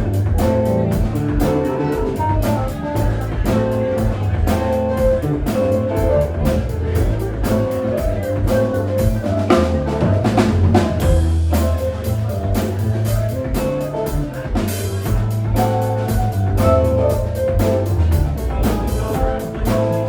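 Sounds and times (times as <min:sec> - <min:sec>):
bass: 0:00.0 - 0:20.0
drum kit beat: 0:00.0 - 0:20.0
electric guitar: 0:00.0 - 0:20.0
keyboards: 0:00.0 - 0:20.0.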